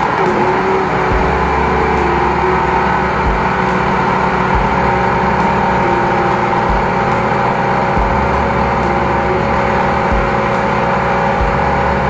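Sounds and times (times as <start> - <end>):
drain jetter running: 0.0 - 12.0.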